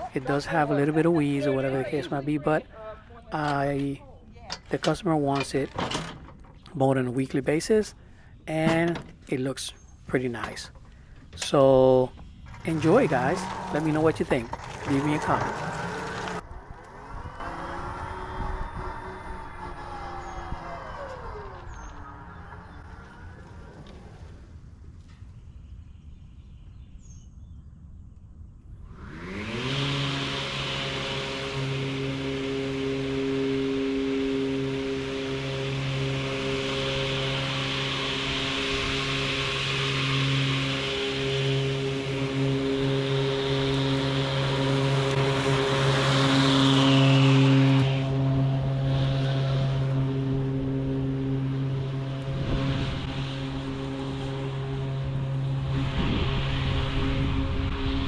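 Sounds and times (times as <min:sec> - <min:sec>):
electric mower motors whining: 0:00.0 - 0:25.2, 0:28.9 - 0:58.0.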